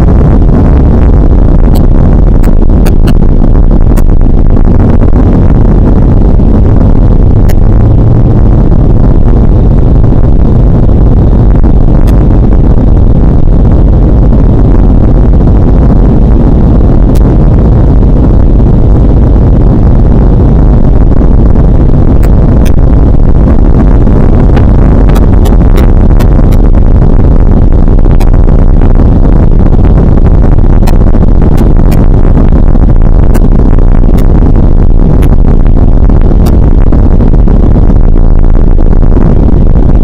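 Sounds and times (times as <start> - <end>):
air rushing past cabin: 0.0 - 40.0
airplane engine and propeller drone: 0.0 - 40.0.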